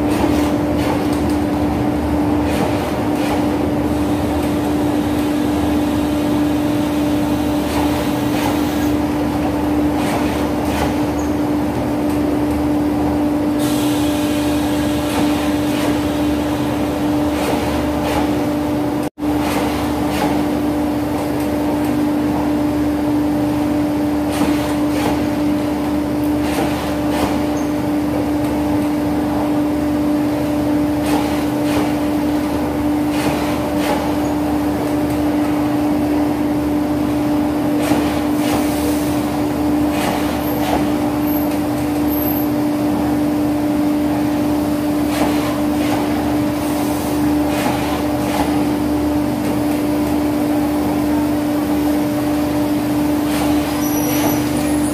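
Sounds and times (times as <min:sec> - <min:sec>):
train mechanical hum: 0:00.0 - 0:54.9.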